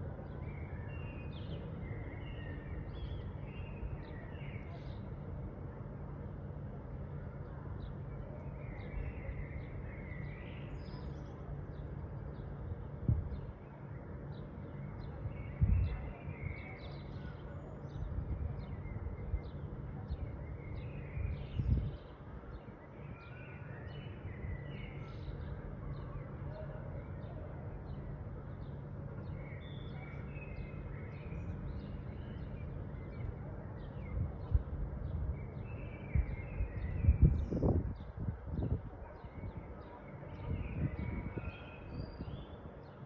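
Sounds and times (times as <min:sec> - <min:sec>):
low outdoor rumble: 0:00.0 - 0:43.0
small birds chirping: 0:07.4 - 0:43.0.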